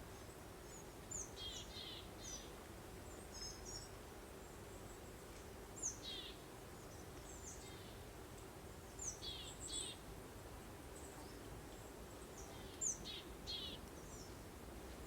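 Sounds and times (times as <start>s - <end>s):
soft hiss of breeze: 0.0s - 15.0s.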